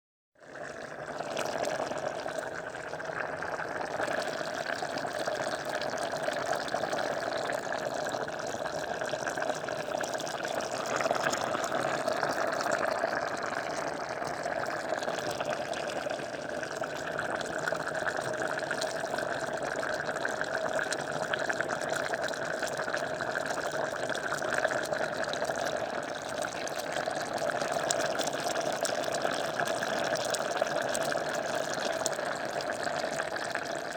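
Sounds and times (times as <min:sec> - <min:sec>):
water bubbling in a pot: 0:00.4 - 0:33.9.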